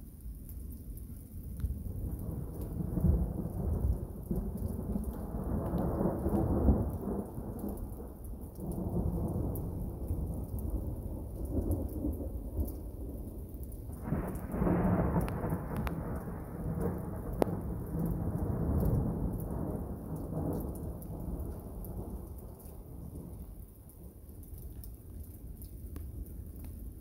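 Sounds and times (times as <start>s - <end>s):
steady rain: 0.0s - 27.0s
thunder rumbling: 1.6s - 24.2s.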